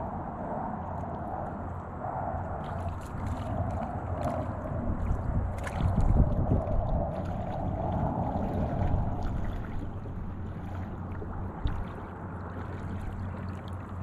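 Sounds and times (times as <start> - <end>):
shallow water lapping: 0.0 - 14.0
wind noise: 0.0 - 14.0.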